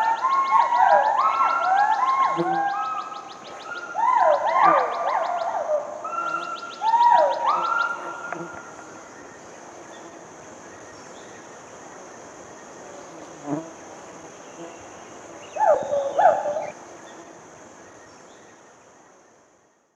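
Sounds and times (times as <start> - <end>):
high insect drone: 0.0 - 19.9.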